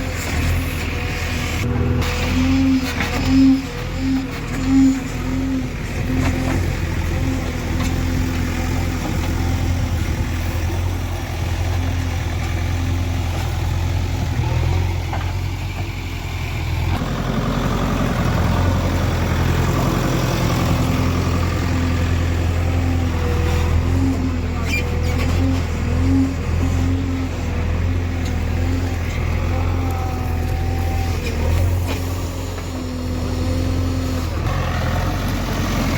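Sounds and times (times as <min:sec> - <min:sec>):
diesel engine droning: 0:00.0 - 0:35.9.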